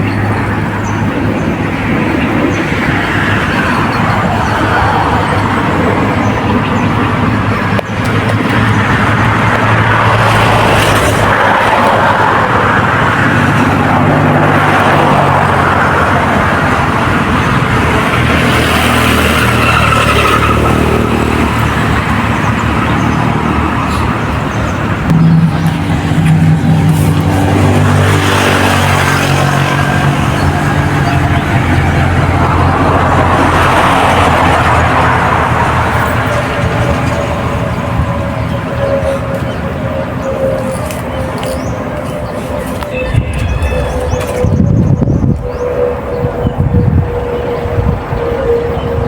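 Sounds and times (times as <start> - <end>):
low engine hum: 0.0 - 49.0
road traffic rushing by: 0.0 - 49.0.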